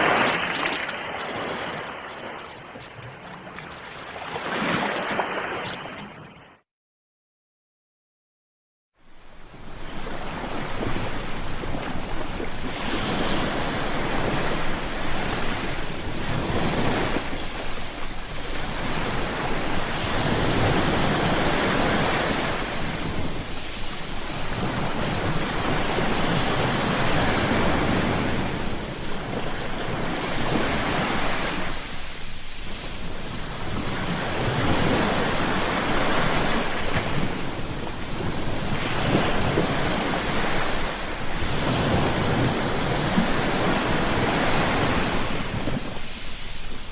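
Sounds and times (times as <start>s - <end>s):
ocean waves rushing in: 0.0s - 6.6s, 9.0s - 46.9s.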